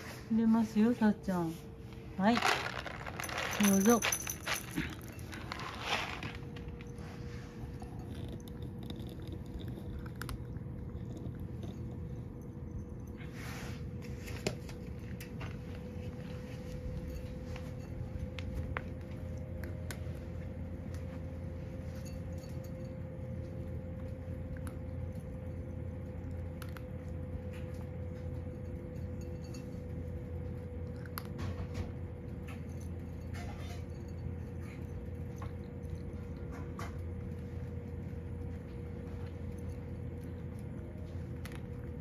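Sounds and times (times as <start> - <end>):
steady low hum: 0.0 - 42.0
cat crunching dry kibble: 2.0 - 16.2, 16.8 - 33.2, 34.1 - 42.0
kibble clinking against bowl: 2.2 - 42.0.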